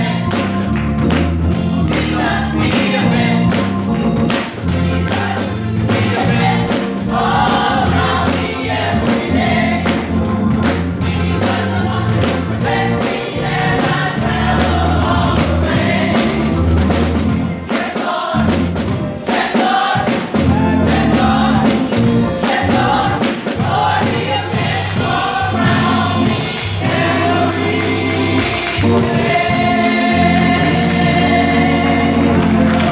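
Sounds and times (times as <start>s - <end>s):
gospel choir singing: 0.0s - 32.9s
tambourine shaking: 0.0s - 32.9s.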